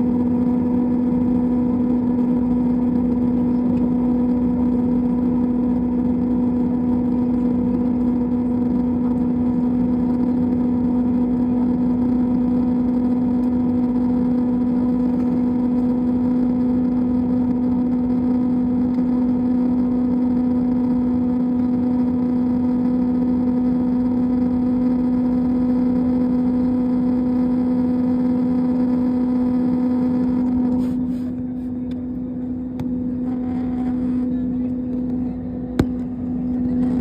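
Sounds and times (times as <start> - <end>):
jet airliner cabin drone: 0.0 - 37.0.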